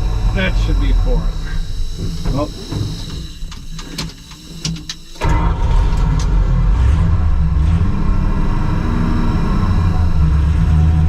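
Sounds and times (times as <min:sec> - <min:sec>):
tracked vehicle engine rumbling: 0:00.0 - 0:04.4, 0:05.2 - 0:11.0.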